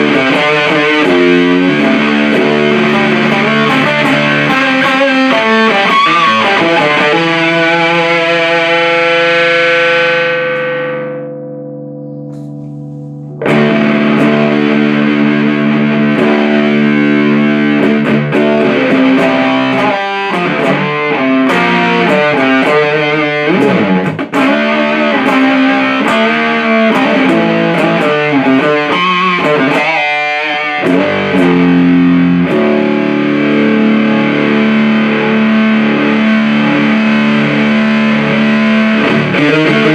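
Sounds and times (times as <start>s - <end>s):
distorted guitar riff: 0.0s - 39.9s
fuzzed electric guitar chord: 0.0s - 39.9s.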